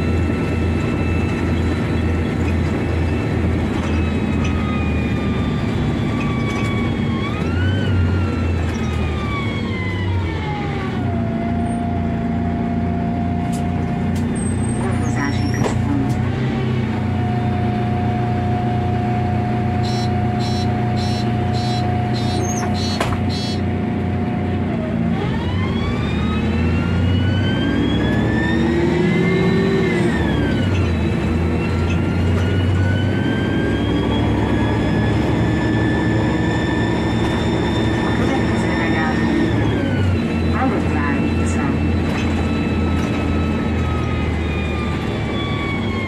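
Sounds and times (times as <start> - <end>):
bus engine whine: 0.0 - 46.0.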